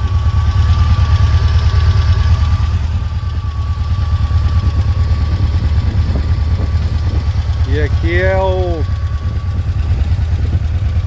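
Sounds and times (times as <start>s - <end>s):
car engine idling: 0.0s - 11.0s
thin steady whine: 0.0s - 11.0s.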